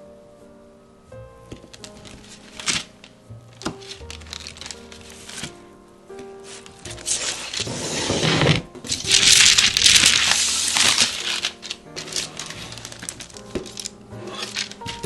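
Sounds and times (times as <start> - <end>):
soft background music: 0.0 - 15.0
crinkling crushing handling noise: 1.5 - 15.0.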